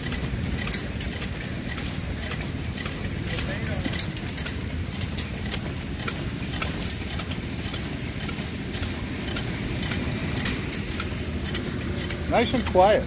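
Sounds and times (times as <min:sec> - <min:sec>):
gasoline engine low rumble: 0:00.0 - 0:13.0
light engine clicks: 0:00.0 - 0:13.0.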